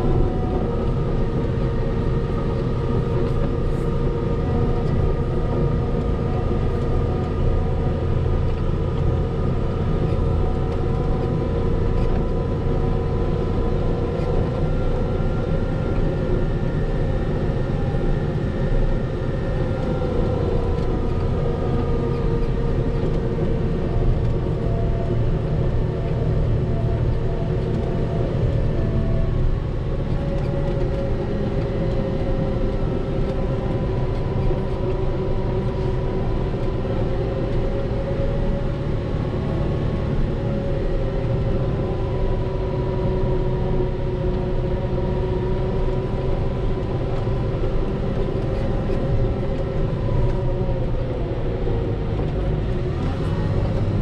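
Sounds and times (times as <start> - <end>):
diesel engine running under load: 0.0 - 54.0
engine whine: 0.0 - 54.0.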